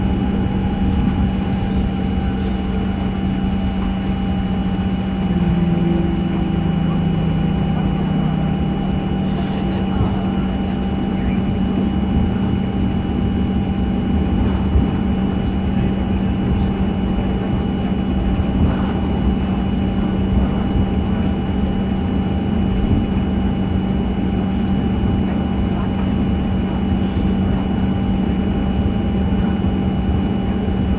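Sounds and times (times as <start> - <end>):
aircraft cabin hum: 0.0 - 30.9.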